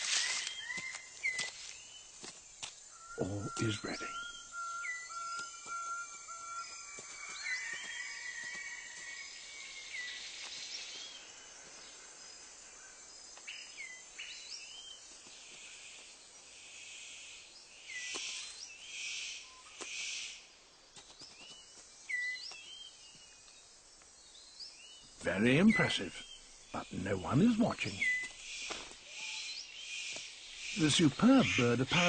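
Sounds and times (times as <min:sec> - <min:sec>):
high insect hiss: 0:00.0 - 0:32.0.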